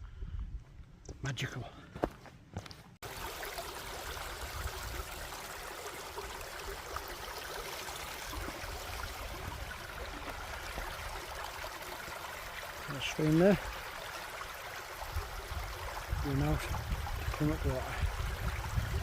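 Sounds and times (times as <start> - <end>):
stream rushing over stones: 3.0 - 19.0.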